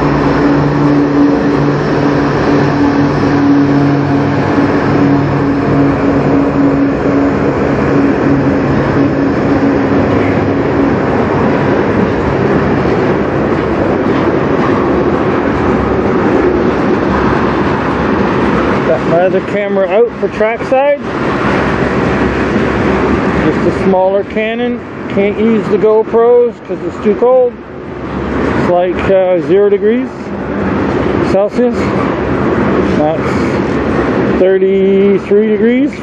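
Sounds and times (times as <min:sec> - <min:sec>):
diesel locomotive engine drone: 0:00.0 - 0:36.0.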